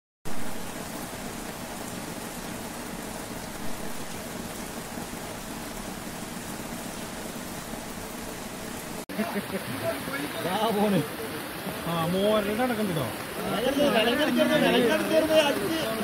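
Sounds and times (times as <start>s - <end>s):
heavy rain: 0.2s - 16.0s
river flowing fast: 0.3s - 16.0s.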